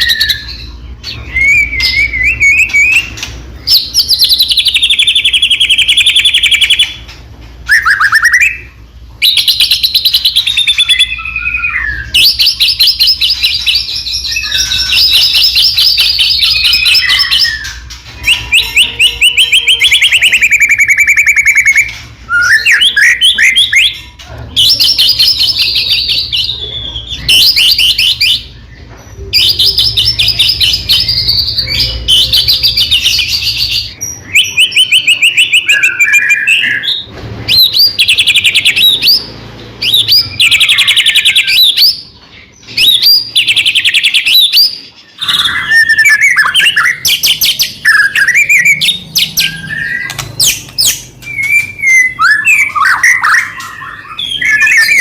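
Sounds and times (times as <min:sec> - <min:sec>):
songbird singing trills and whistles: 0:00.0 - 0:55.0.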